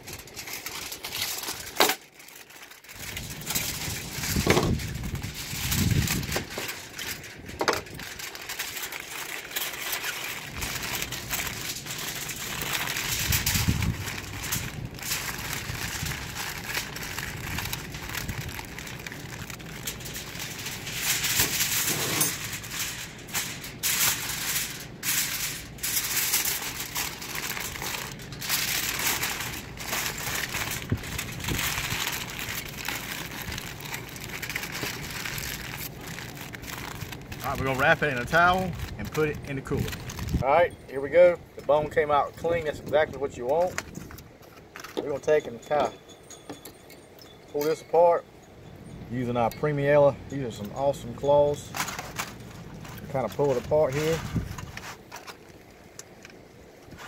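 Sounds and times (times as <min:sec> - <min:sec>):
aluminum foil crinkling: 0:00.0 - 0:40.4, 0:41.6 - 0:45.6, 0:50.5 - 0:57.0.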